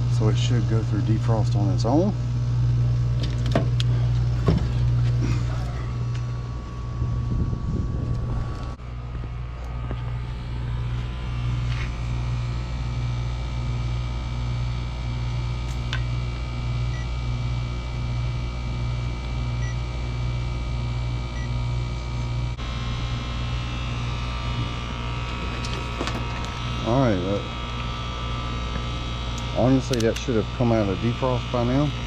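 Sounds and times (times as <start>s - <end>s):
compressor hum pulsing: 0.0s - 32.0s.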